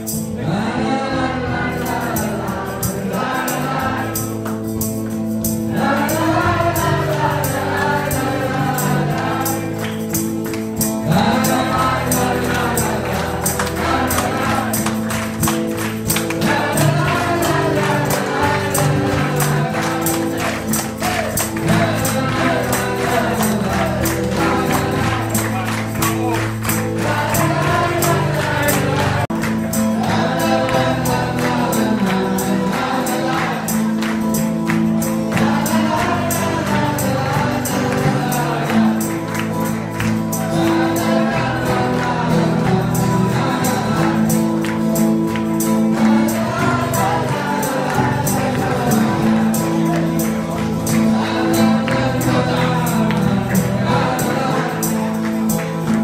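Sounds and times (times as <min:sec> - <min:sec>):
person singing: 0:00.0 - 0:56.0
strummed acoustic guitar: 0:00.0 - 0:56.0
tambourine beat: 0:00.0 - 0:56.0.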